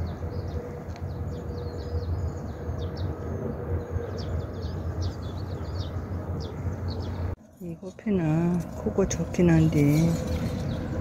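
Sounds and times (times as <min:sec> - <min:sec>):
small birds chirping: 0:00.0 - 0:08.1, 0:09.7 - 0:11.0
low outdoor rumble: 0:00.0 - 0:11.0.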